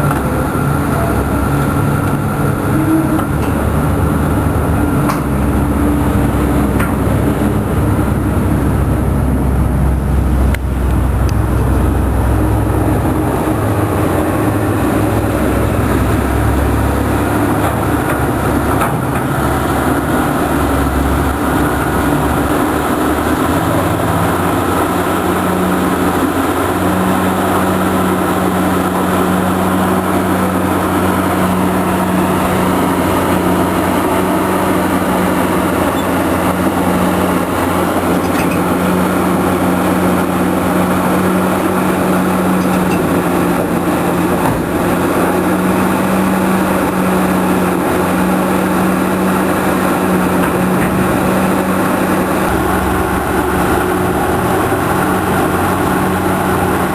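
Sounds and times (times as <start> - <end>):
excavator diesel engine running: 0.0 - 56.9
steady hum: 0.0 - 56.9.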